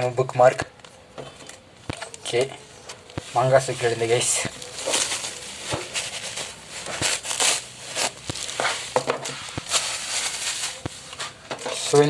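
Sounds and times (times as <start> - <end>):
packaging crinkling and rustling: 0.7 - 12.0.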